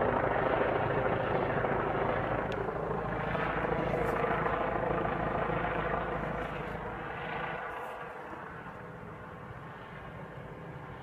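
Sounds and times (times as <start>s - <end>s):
rushing drone from the sky: 0.0s - 11.0s.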